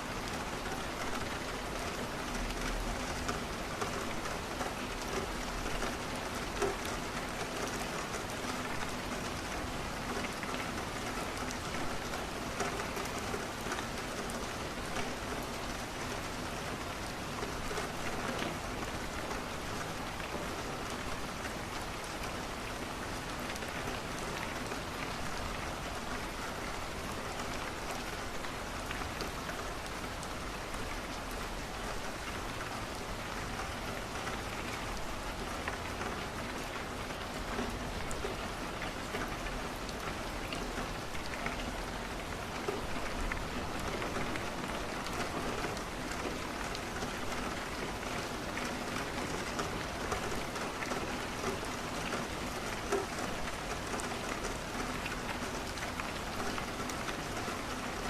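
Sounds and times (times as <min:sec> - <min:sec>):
rain falling on a window: 0:00.0 - 0:58.0.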